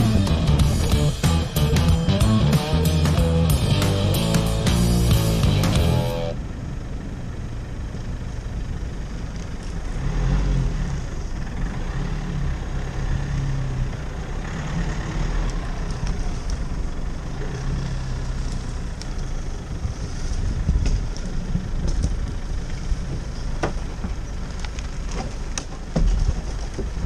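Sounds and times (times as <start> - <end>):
vehicle engine and road rumble: 0.0 - 27.0.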